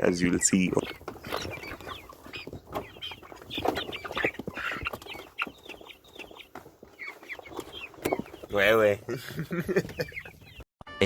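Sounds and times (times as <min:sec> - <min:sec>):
young chickens clucking and cheeping: 0:00.0 - 0:10.6.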